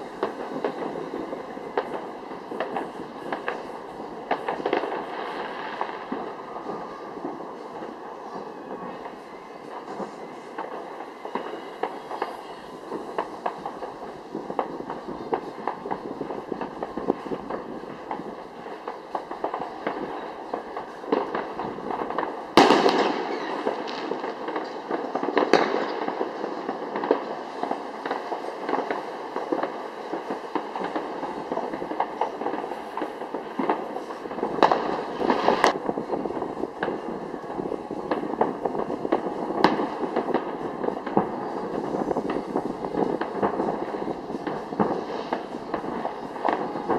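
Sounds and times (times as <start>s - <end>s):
fireworks crackling and popping: 0.0s - 46.9s
loud firework bangs: 0.0s - 46.9s.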